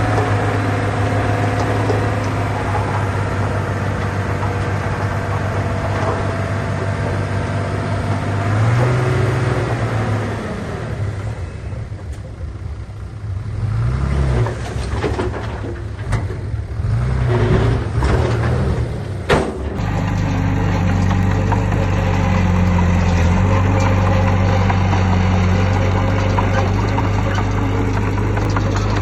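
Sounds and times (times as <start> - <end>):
heavy diesel engines working: 0.0 - 29.0.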